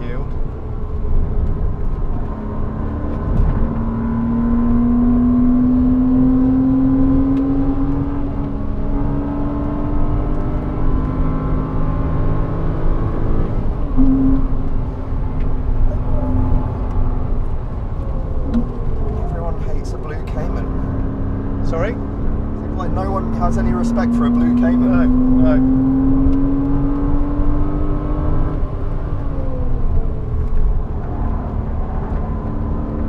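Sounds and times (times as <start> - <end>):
car engine at speed: 0.0 - 33.0
tyre and road noise: 0.0 - 33.0.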